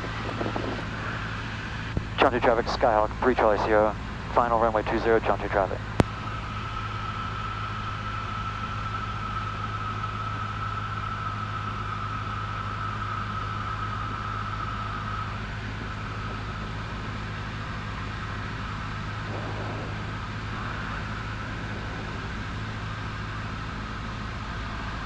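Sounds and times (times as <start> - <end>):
airplane engine and propeller drone: 0.0 - 25.0
thin high whine: 2.2 - 25.0.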